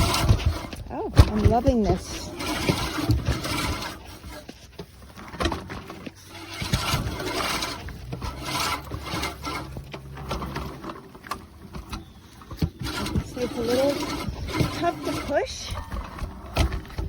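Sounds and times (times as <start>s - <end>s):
reel mower whirring through grass: 0.0s - 17.0s.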